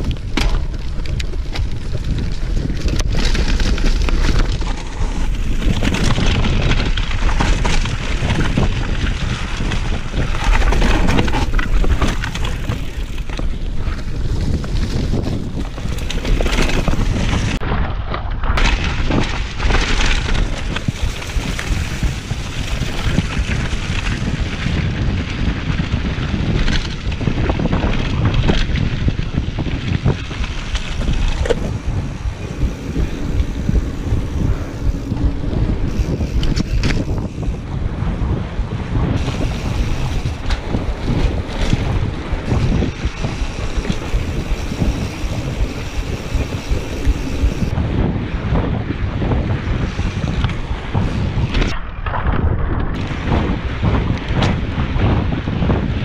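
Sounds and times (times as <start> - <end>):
bike knocks and rattles: 0.0 - 47.8, 48.6 - 56.0
wind buffeting microphone: 0.0 - 56.0.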